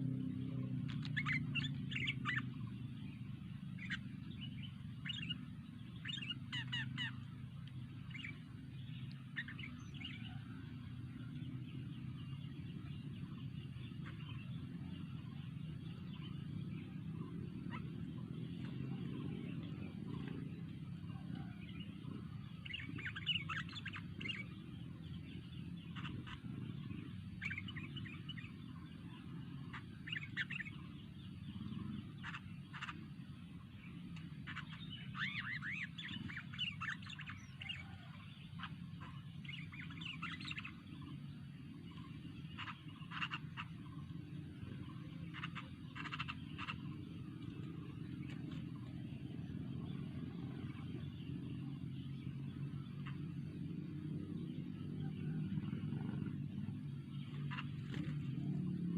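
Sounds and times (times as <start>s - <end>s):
bird chirping: 0.0s - 58.9s
steady low hum: 0.0s - 58.9s.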